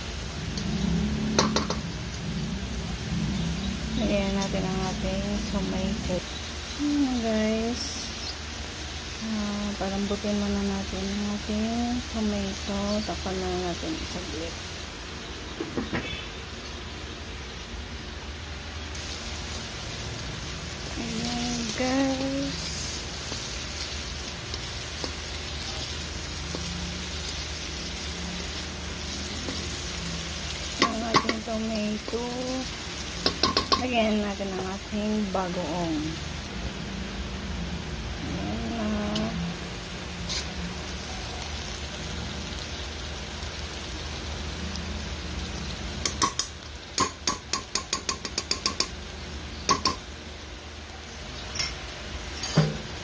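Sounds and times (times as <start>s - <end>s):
vegetables sizzling in hot oil: 0.0s - 53.0s.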